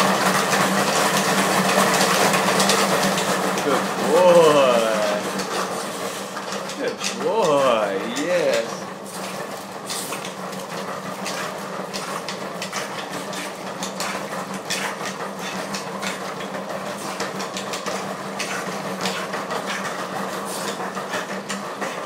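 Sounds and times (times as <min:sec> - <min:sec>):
treadmill hum: 0:00.0 - 0:22.0.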